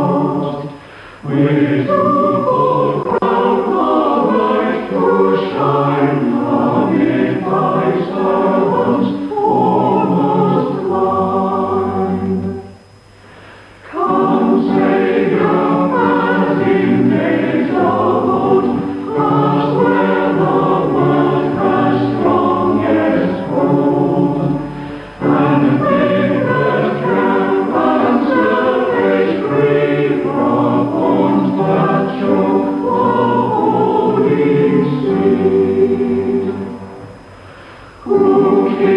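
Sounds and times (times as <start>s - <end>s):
choir and congregation singing hymn: 0.0s - 38.9s.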